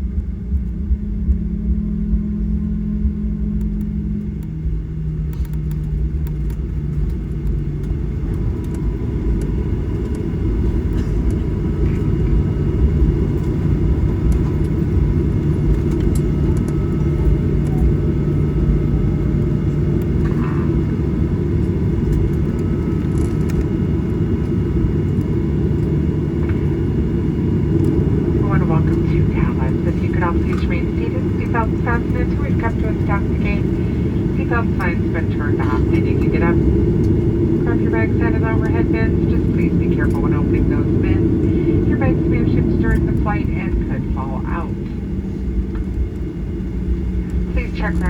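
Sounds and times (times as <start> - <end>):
jet engines idling: 0.0 - 48.0
airframe rolling on taxiway: 0.1 - 48.0.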